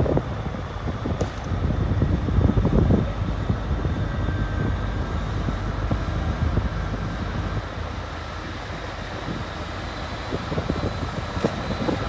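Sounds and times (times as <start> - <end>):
diesel train engine rumble: 0.0 - 12.0
faint whine: 0.0 - 12.0.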